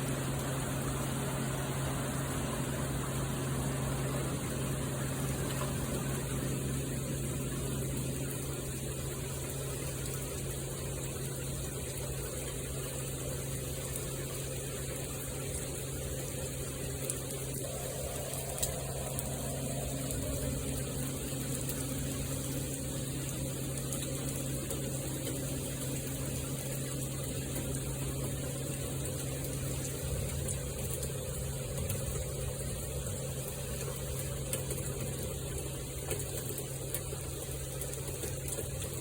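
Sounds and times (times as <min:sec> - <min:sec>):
constant low hum: 0:00.0 - 0:39.0
sharp drip ticks: 0:00.0 - 0:39.0
steady rain pouring: 0:00.0 - 0:39.0.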